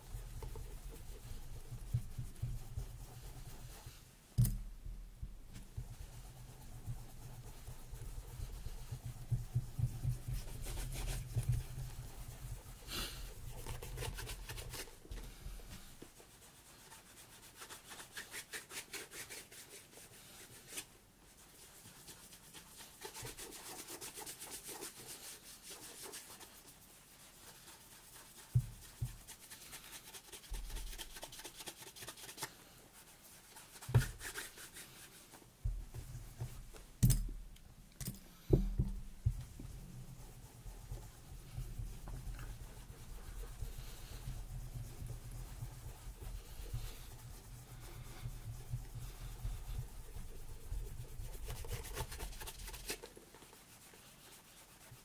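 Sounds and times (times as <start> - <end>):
rubbing strokes on leather boot: 0.0 - 4.1, 5.5 - 37.4, 38.4 - 55.0.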